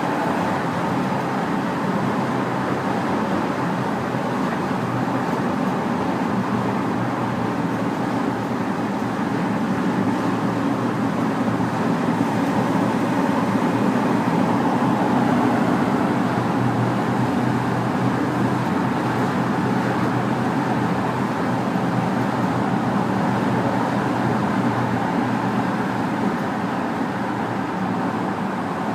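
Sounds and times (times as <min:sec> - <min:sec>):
car engine rumbling in tunnel: 0:00.0 - 0:28.9.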